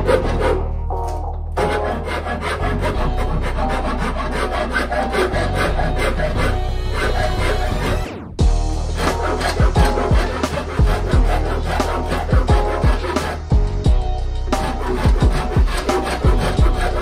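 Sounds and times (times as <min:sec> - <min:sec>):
hand file rasping on wood: 0:00.0 - 0:00.6, 0:01.6 - 0:08.0, 0:08.8 - 0:17.0
background music: 0:00.0 - 0:17.0.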